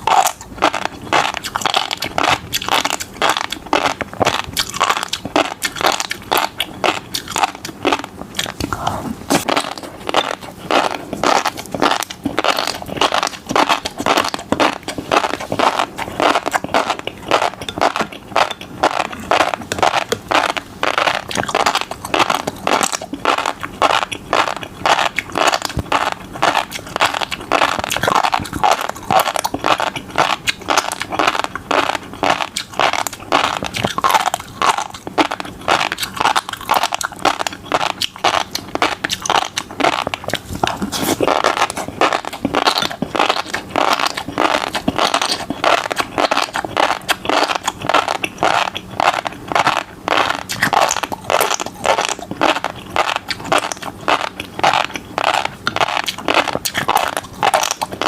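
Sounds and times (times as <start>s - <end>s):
fish roe crackling while chewed: 0.0s - 58.0s.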